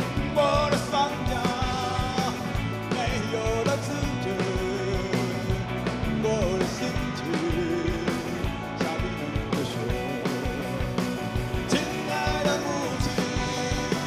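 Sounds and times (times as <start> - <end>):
rock band playing: 0.0 - 14.0
steady drum beat: 0.0 - 14.0.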